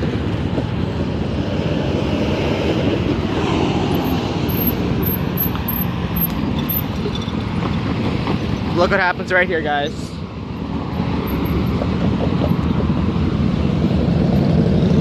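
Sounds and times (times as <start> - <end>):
cars and buses driving past: 0.0 - 15.0.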